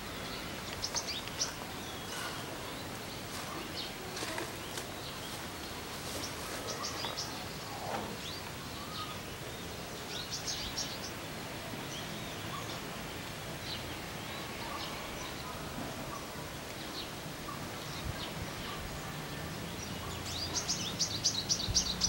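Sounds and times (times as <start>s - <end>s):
birds chirping: 0.0s - 22.0s
outdoor background hiss: 0.0s - 22.0s.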